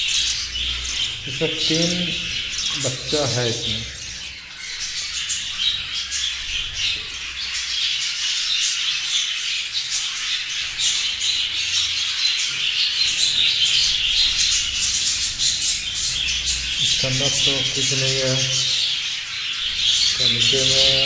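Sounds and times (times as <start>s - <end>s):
budgerigars chattering and chirping: 0.0s - 21.0s.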